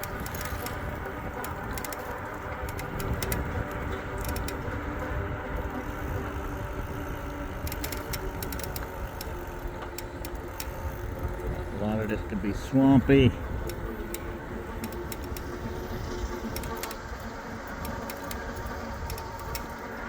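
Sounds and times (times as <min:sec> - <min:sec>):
bike rattling clicks: 0:00.0 - 0:20.0
tyre and wind rumble: 0:00.0 - 0:20.0.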